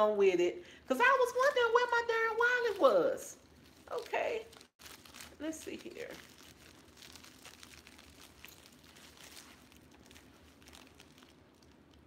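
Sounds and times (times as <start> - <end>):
packaging rustling and crinkling: 2.3 - 12.0.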